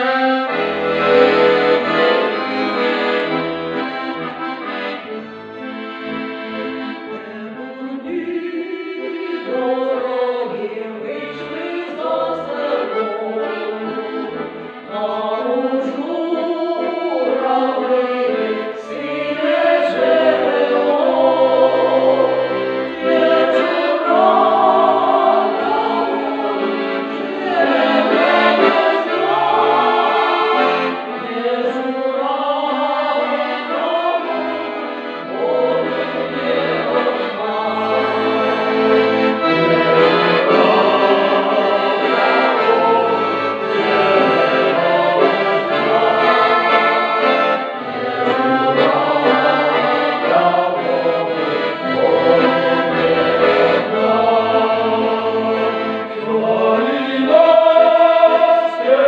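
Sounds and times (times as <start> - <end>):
mixed choir singing in harmony: 0.0 - 4.5, 7.9 - 59.0
piano accordion: 0.0 - 59.0.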